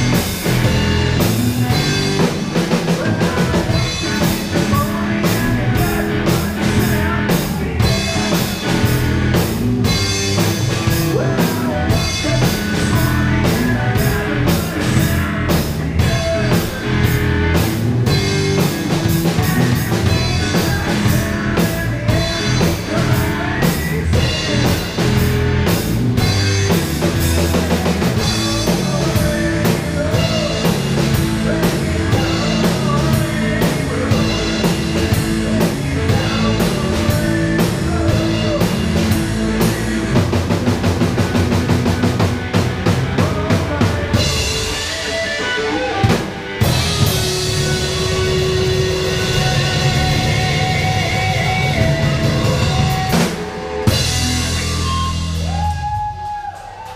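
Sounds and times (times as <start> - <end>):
drum kit beat: 0.0 - 56.9
electric bass: 0.0 - 56.9
electric guitar: 0.0 - 56.9
instrumental rock band playing: 0.0 - 56.9.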